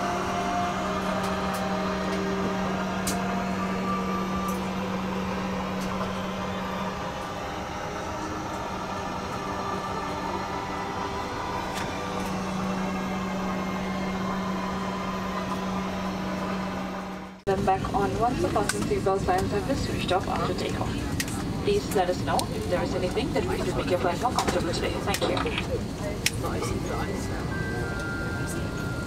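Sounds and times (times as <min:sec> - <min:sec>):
airliner cabin air rush: 0:00.0 - 0:29.0
constant low hum: 0:00.0 - 0:29.0.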